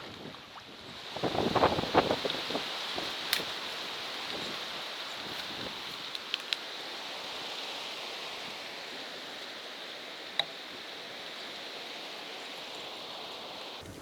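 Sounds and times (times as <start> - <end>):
wind rushing through vegetation: 0.0 - 14.0.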